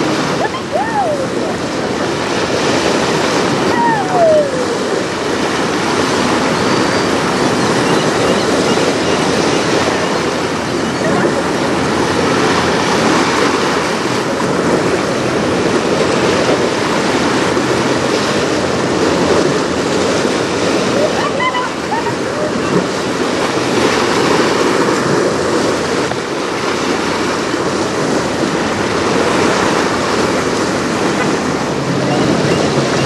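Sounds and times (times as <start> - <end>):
choppy waves: 0.0 - 33.0
wind rushing: 0.0 - 33.0.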